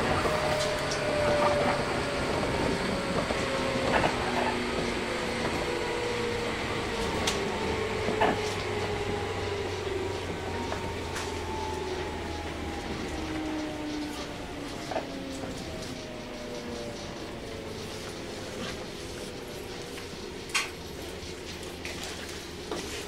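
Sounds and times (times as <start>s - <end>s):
electric train motor whine: 0.0s - 23.0s
train rumble: 0.0s - 23.0s.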